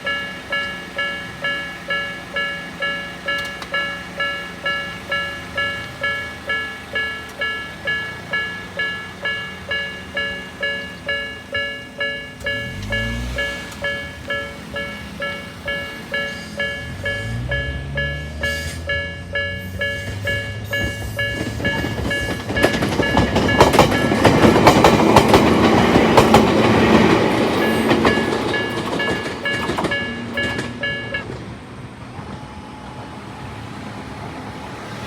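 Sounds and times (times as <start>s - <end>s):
level-crossing bell ringing: 0.0s - 31.4s
train wheels clacking over rails: 0.0s - 33.0s.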